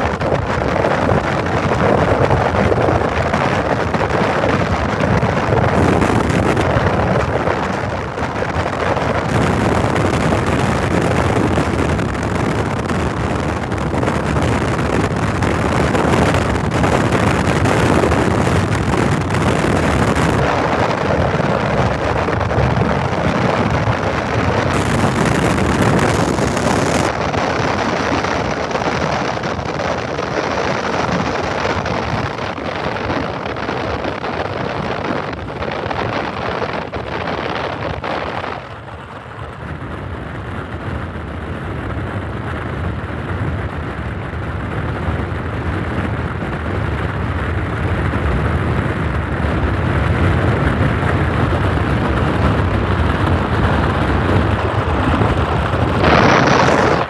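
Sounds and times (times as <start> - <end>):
locomotive deep rumble: 0.0 - 57.0
train wheels rumbling on rails: 0.0 - 57.0.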